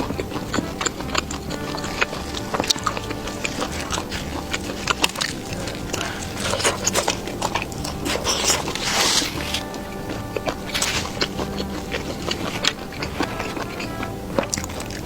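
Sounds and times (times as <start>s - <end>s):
crunching crispy fried food: 0.0s - 15.0s
soft background music: 0.0s - 15.0s.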